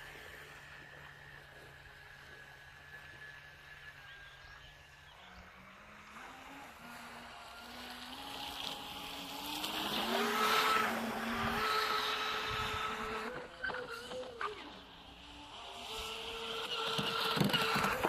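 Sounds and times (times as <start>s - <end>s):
rc boat electric motor whining: 0.0s - 18.0s.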